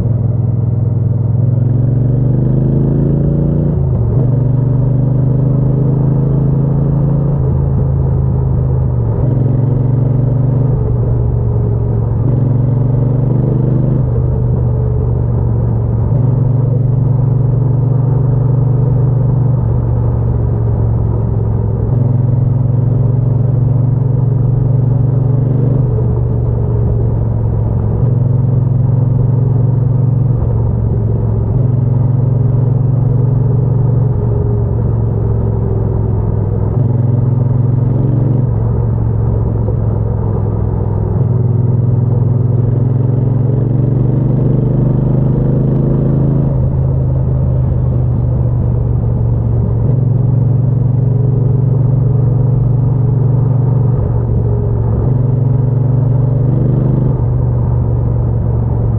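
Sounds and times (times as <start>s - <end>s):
motorcycle engine and exhaust: 0.0s - 58.9s.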